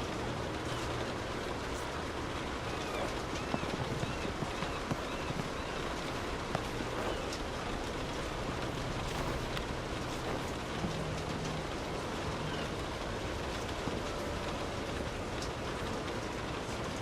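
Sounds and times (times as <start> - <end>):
rain falling on street: 0.0 - 17.0.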